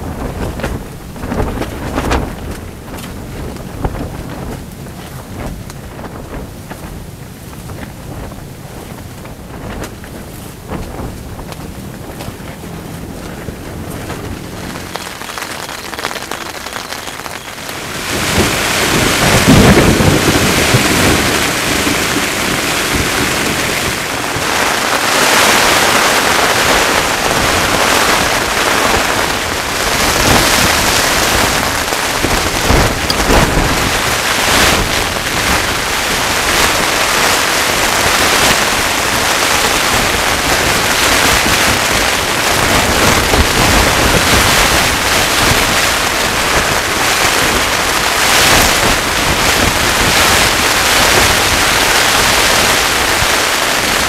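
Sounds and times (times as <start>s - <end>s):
heavy rain on tent: 0.0s - 54.0s
thunder rumbling: 0.0s - 54.0s.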